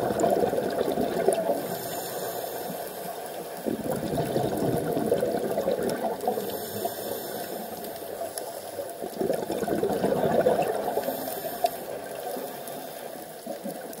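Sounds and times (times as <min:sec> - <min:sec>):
underwater air bubbling: 0:00.0 - 0:14.0.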